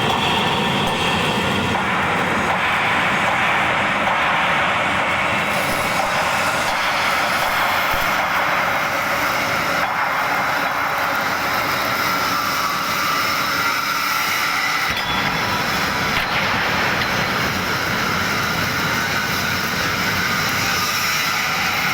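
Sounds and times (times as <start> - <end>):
welding arc hissing: 0.1 - 21.9.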